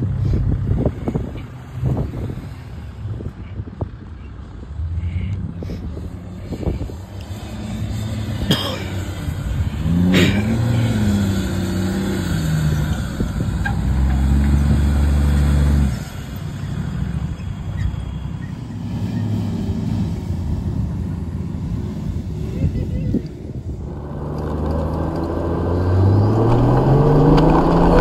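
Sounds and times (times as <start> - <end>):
four-wheel-drive engines revving: 0.0 - 28.0.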